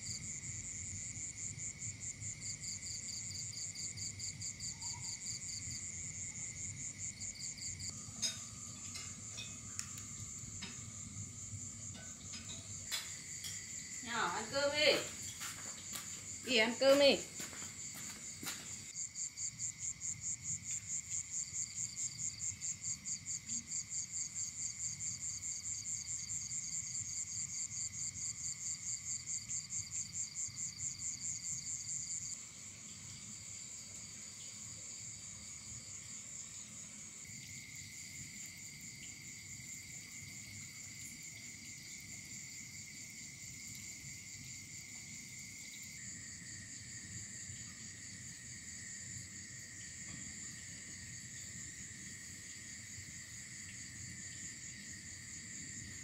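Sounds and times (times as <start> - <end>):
insects trilling: 0.0 - 56.0
low continuous insect buzz: 0.0 - 56.0
steady high insect trill: 0.0 - 56.0.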